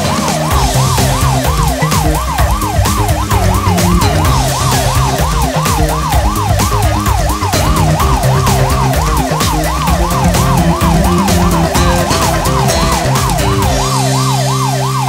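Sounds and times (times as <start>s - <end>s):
low stepping bass line: 0.0s - 15.0s
police siren yelping: 0.0s - 15.0s.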